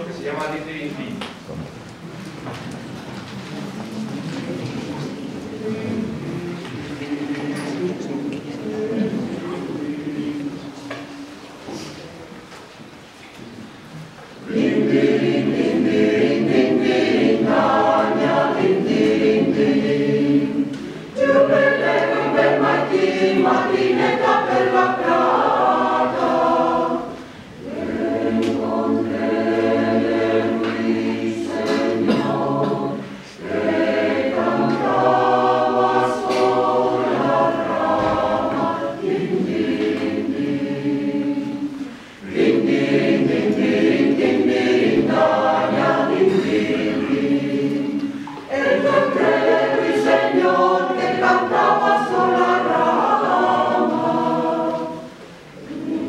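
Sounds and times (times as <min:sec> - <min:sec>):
mixed choir singing: 0:04.3 - 0:11.8, 0:14.4 - 0:56.0.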